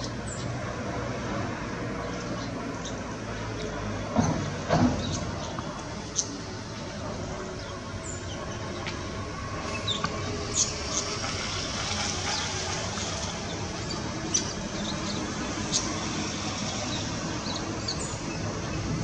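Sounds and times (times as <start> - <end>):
open-air hiss and rumble: 0.0 - 19.0.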